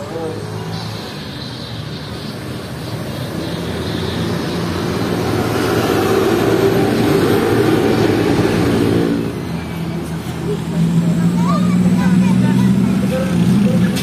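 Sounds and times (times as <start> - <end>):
bus engine and tyre noise: 0.0 - 14.0.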